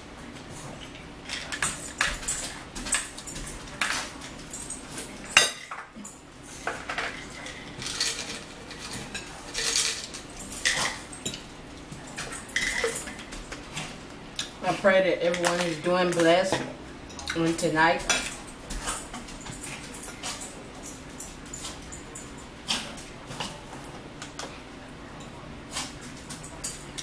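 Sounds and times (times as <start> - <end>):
cutlery and dishes clinking: 0.8 - 13.9, 15.3 - 24.6, 25.2 - 27.0.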